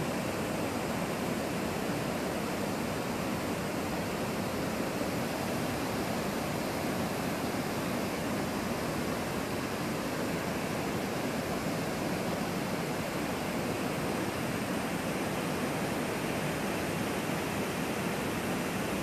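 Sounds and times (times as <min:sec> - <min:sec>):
waterfall rushing over rocks: 0:00.0 - 0:19.0.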